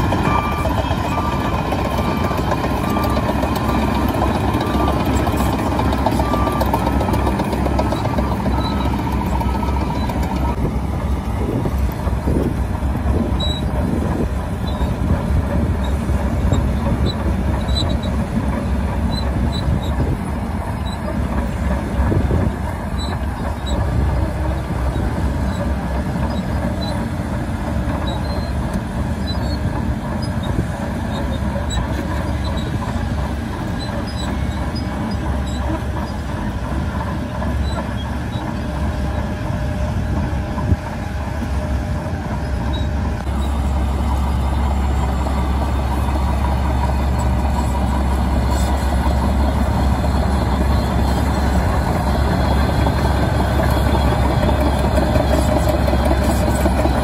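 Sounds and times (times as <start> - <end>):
bulldozer diesel engine running: 0.0 - 57.0
tracks clinking: 0.0 - 57.0.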